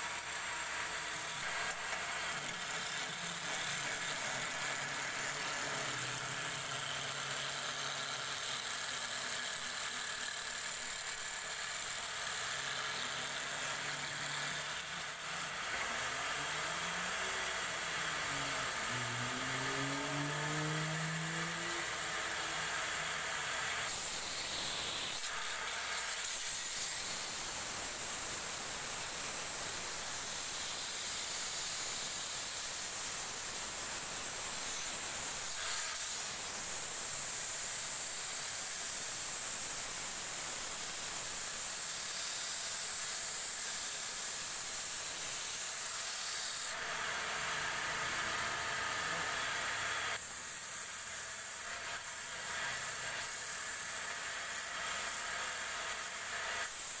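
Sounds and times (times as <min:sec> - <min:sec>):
wood sanded on a spinning lathe: 0:00.0 - 0:57.0.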